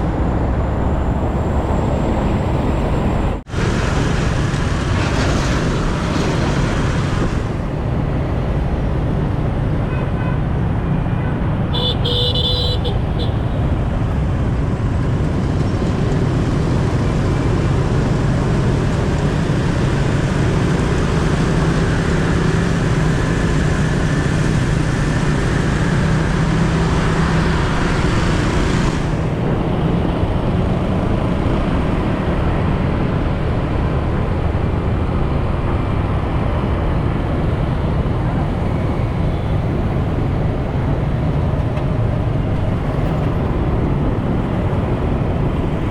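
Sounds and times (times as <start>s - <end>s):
wind and road noise: 0.0s - 45.9s.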